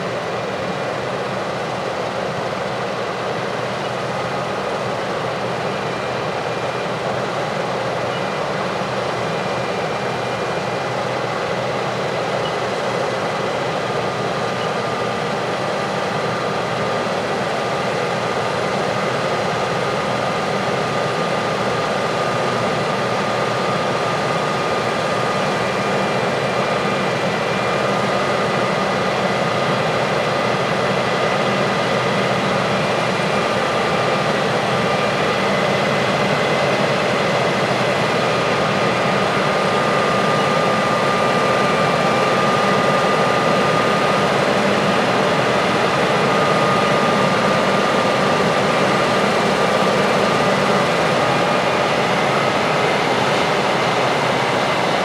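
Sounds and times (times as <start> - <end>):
harvest machinery engine drone: 0.0 - 55.0.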